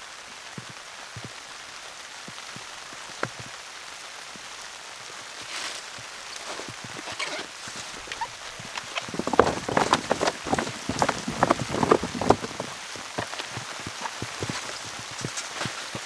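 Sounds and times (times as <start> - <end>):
raindrops pattering on a surface: 0.0 - 16.0.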